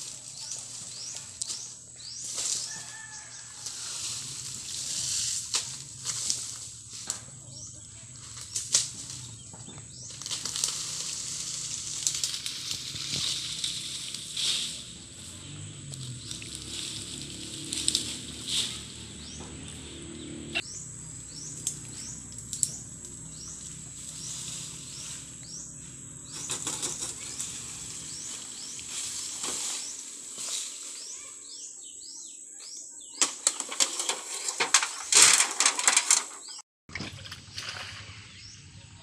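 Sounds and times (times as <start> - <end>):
dry palm fronds crackling: 0.0 - 31.6, 33.2 - 36.6.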